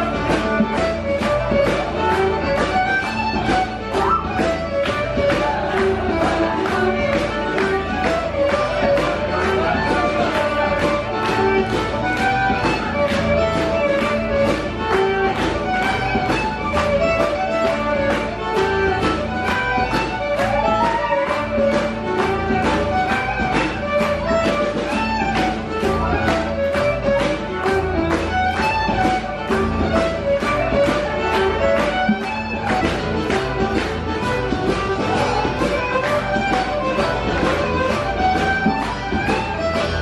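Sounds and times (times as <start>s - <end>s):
fiddle and guitar dance music: 0.0s - 40.0s.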